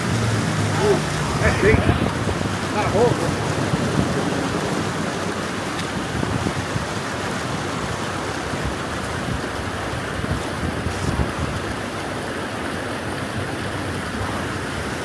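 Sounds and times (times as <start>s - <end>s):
water rushing through a dam: 0.0s - 15.0s.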